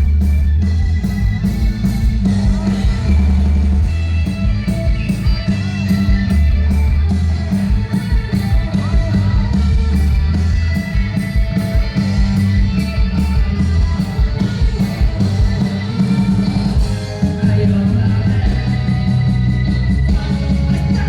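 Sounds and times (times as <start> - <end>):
bass: 0.0 - 21.0
drums: 0.0 - 21.0
electric guitar: 0.0 - 21.0.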